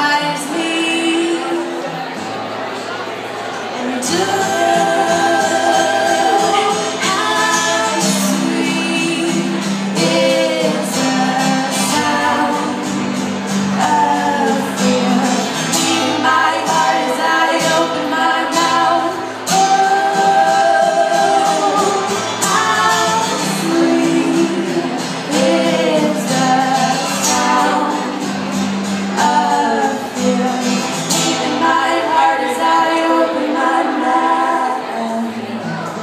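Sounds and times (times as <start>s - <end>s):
two women singing: 0.0s - 2.2s, 3.8s - 35.9s.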